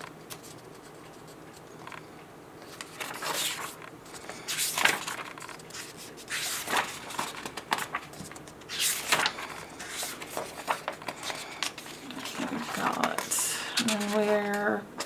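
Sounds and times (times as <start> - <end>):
paper pages rustling: 0.0 - 14.8.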